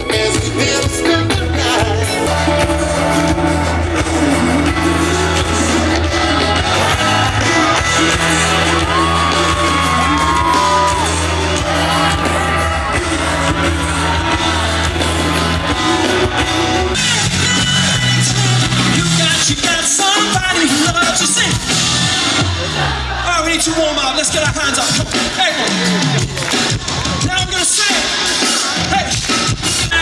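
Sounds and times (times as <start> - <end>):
live band with heavy bass: 0.0 - 30.0.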